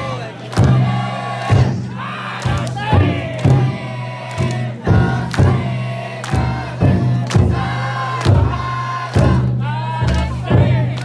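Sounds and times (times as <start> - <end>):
crowd chanting and shouting: 0.0 - 11.0
taiko drum beaten: 0.5 - 11.0.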